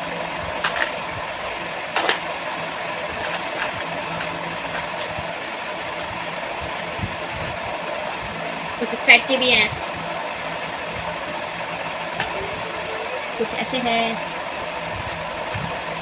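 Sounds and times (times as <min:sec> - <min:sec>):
faint low hum: 0:00.0 - 0:16.0
steady mechanical whir: 0:00.0 - 0:16.0.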